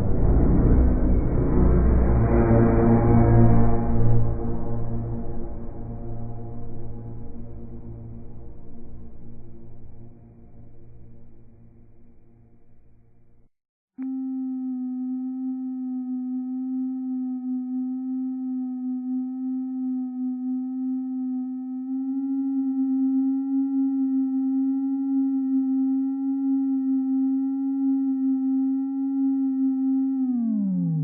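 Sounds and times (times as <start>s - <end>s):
steady low tone with overtones: 0.0s - 31.0s.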